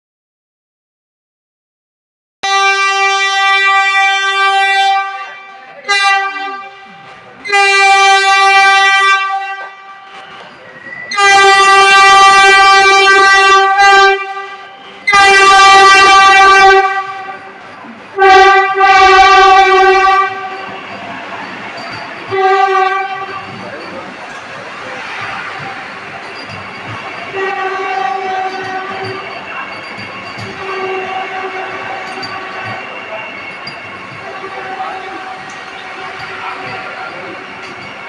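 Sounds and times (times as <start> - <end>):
train horn blasts: 2.4 - 10.5, 11.1 - 17.6, 18.2 - 23.8, 25.0 - 33.6, 34.2 - 37.9
moving train rushing: 2.5 - 38.0.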